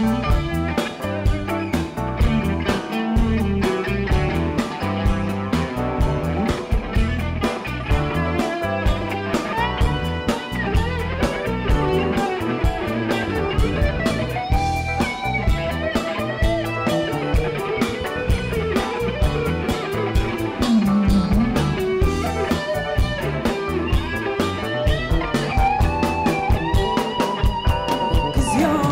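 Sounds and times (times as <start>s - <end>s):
electric guitar melody: 0.0s - 28.9s
drum beat: 2.2s - 28.9s.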